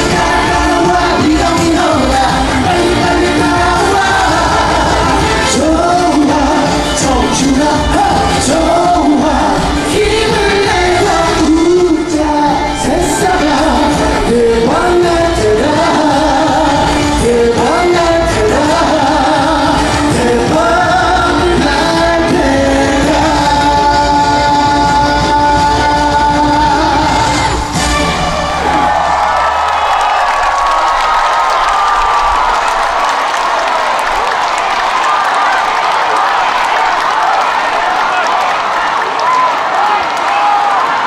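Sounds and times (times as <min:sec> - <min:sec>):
live pop music with singing: 0:00.0 - 0:41.0.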